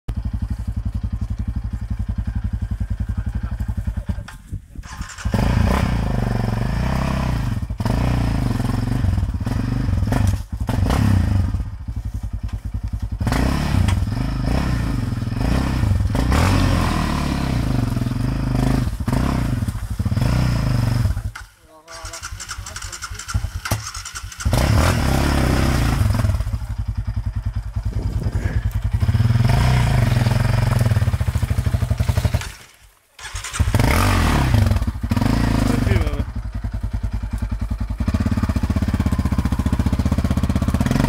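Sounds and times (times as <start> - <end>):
quad engine idling and revving: 0.1 - 41.0.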